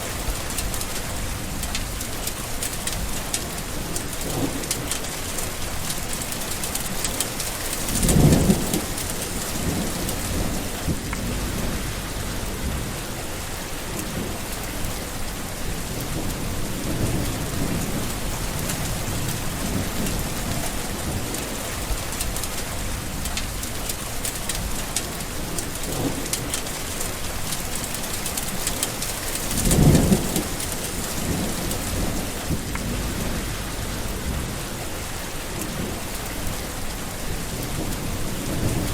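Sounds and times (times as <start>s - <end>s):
steady rain: 0.0s - 38.9s
thunder rumbling: 0.0s - 38.9s.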